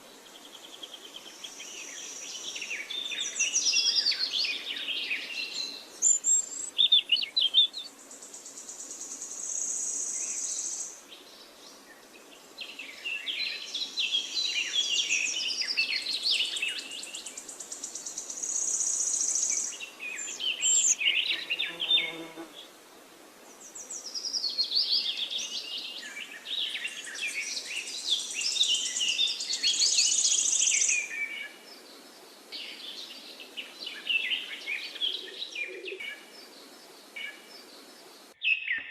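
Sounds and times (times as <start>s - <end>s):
faint steady hiss: 0.0s - 38.4s
birds chirping and trilling: 0.3s - 22.5s, 23.5s - 38.9s.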